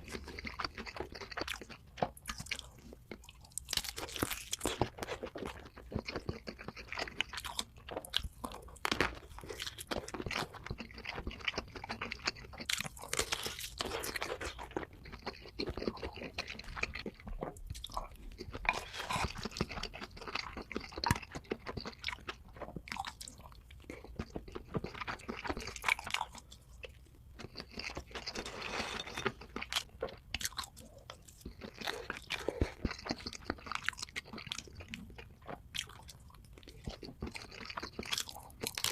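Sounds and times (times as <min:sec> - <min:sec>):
crunchy chewing of food: 0:00.0 - 0:38.9.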